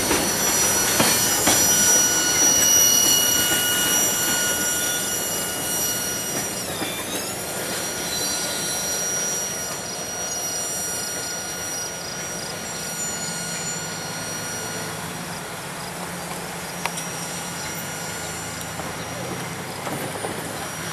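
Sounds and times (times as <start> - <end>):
freight train cars rolling: 0.0 - 20.9
high wheel squeal on rails: 0.0 - 20.9.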